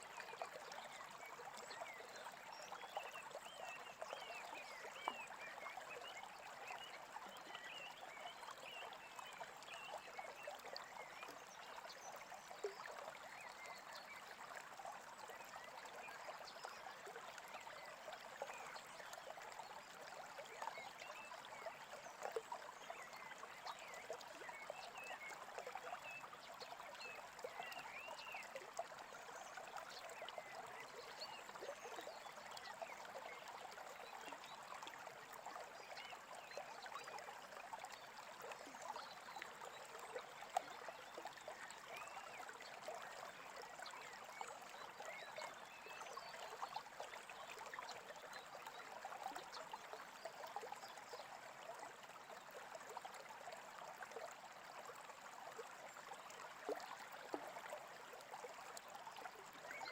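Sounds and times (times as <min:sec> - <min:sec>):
creek babbling: 0:00.0 - 0:59.9.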